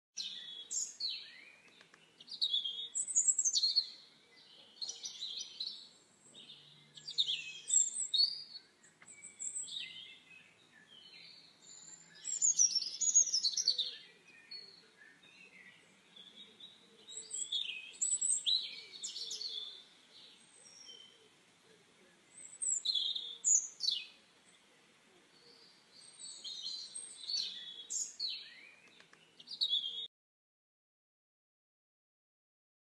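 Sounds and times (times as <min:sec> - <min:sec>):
small birds chirping: 0:00.2 - 0:30.1.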